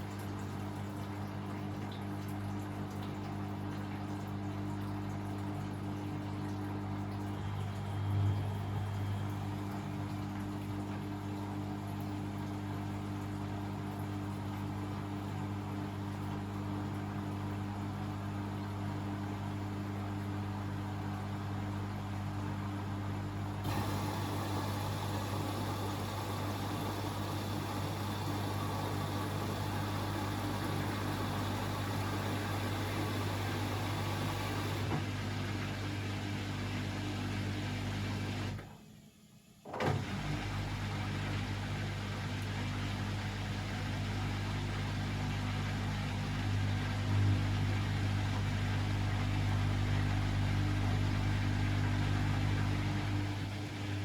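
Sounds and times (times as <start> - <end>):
washing machine drum motor humming: 0.0 - 38.8, 39.6 - 54.0.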